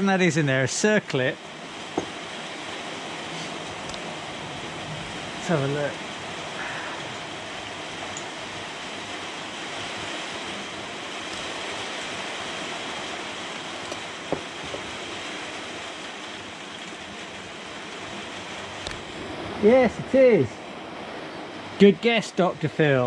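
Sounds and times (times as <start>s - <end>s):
rain and sleet drumming on roof: 0.0s - 23.0s.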